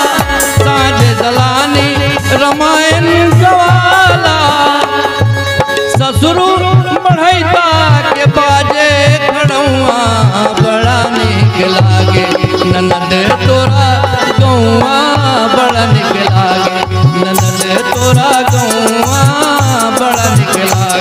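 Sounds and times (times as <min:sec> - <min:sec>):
hand drum beat: 0:00.0 - 0:21.0.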